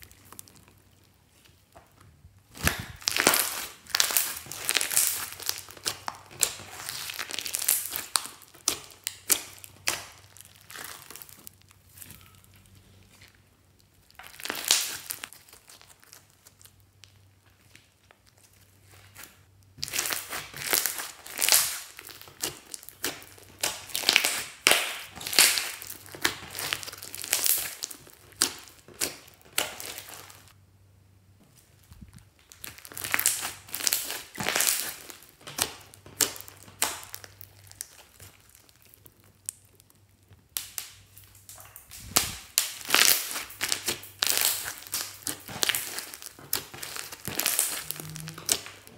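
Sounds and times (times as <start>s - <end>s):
slime crackling and squishing: 0.0s - 30.6s, 31.6s - 48.9s.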